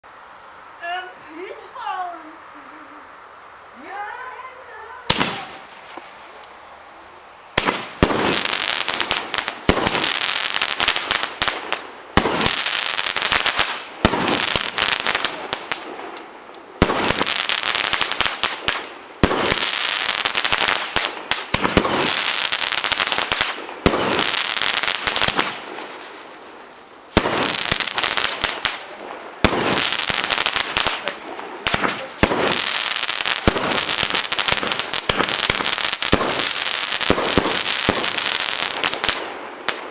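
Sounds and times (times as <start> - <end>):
firework reports: 3.7 - 6.5, 7.4 - 39.9
firework crackling: 3.7 - 39.9.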